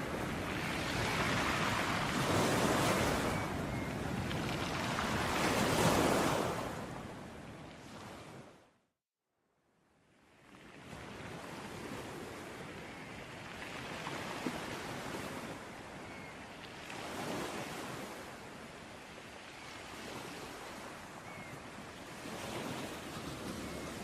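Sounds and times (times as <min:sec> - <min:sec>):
ocean waves on a beach: 0:00.0 - 0:08.8, 0:09.8 - 0:24.0.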